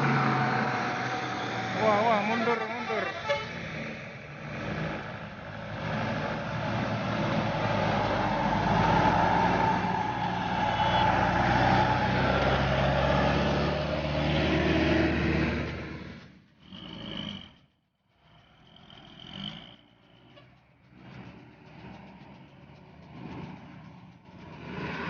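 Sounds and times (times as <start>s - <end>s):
diesel bus engine under load: 0.0s - 25.0s.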